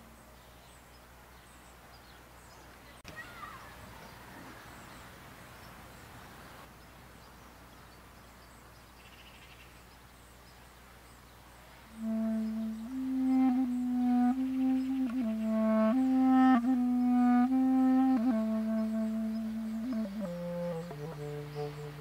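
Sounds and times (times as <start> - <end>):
faint bird chirps: 0.0 - 22.0
soft airy hiss: 0.0 - 22.0.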